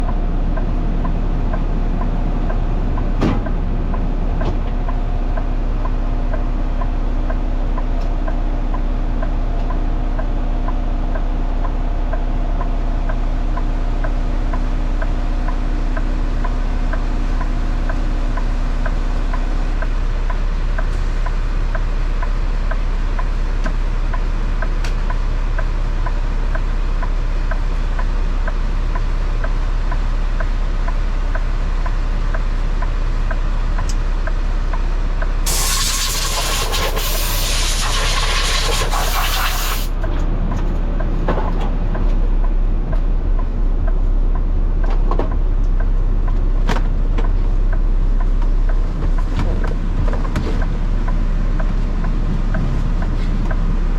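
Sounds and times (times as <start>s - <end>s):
diesel truck engine running: 0.0s - 53.9s.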